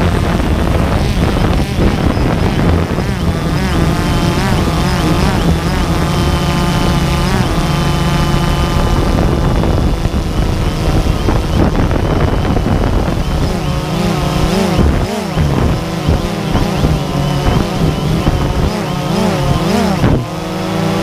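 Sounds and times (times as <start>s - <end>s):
drone propellers whirring: 0.0s - 21.0s
wind rumble on microphone: 0.0s - 21.0s.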